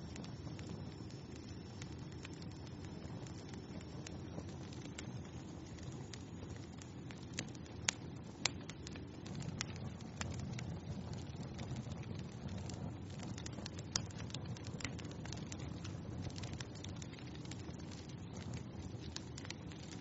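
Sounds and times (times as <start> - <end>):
fire crackling and popping: 0.0 - 20.0
fire flame rushing: 0.0 - 20.0.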